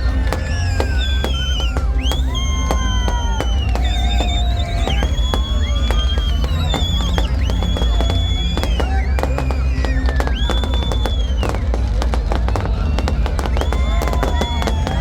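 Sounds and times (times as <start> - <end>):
fireworks bangs and crackles: 0.0 - 15.0
fireworks whistles: 0.0 - 15.0.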